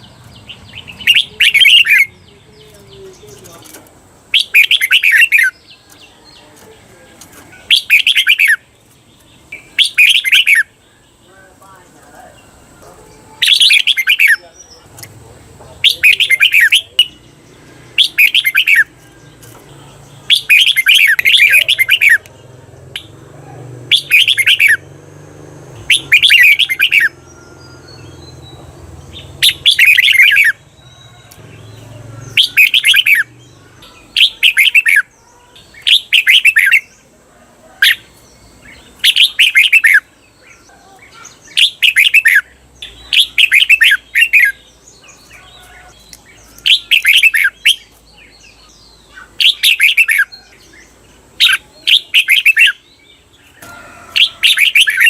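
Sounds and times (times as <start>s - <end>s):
bulbul singing warbled song: 0.0s - 55.0s.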